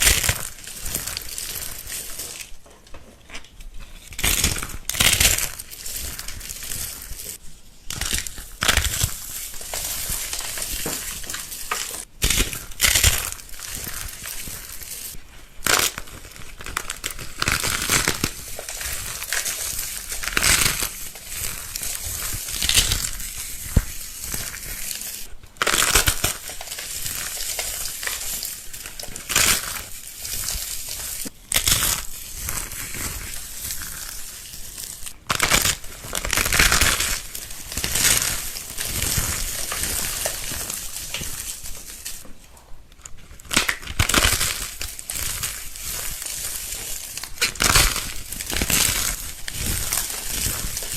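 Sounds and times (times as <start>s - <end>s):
brittle material being crushed: 0.0s - 42.3s, 42.9s - 50.9s.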